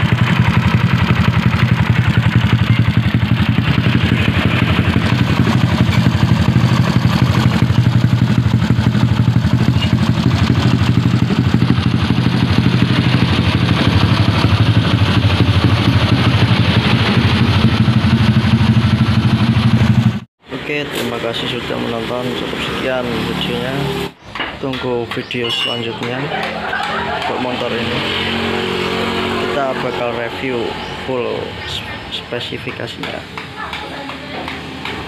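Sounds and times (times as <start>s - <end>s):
scooter engine idling: 0.0s - 20.2s, 25.1s - 35.0s.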